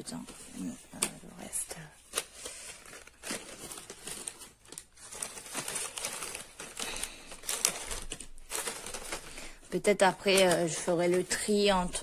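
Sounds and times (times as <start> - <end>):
paper sachets rustling: 0.0 - 12.0.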